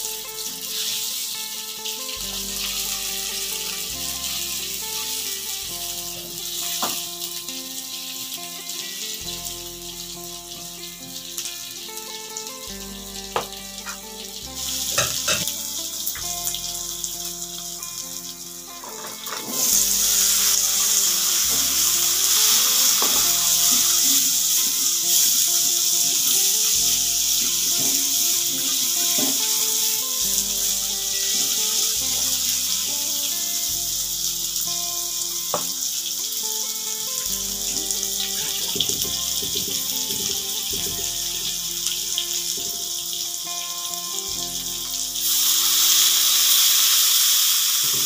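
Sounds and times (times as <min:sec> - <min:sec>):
background music: 0:00.0 - 0:48.0
food sizzling in hot oil: 0:00.0 - 0:48.0.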